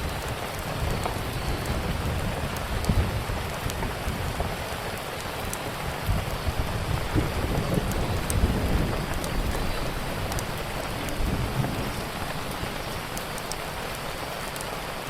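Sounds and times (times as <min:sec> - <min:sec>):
steady rain hiss: 0:00.0 - 0:15.0
wood fire crackling: 0:00.0 - 0:15.0.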